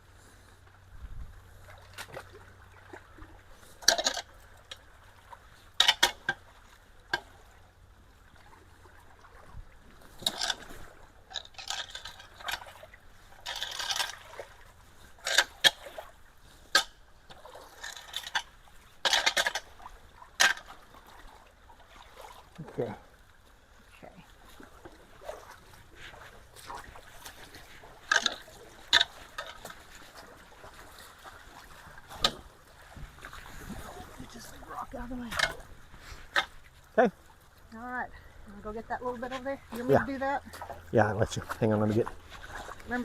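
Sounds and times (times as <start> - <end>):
flowing water wash: 0.0 - 43.0
water splashing and sloshing: 0.0 - 43.0.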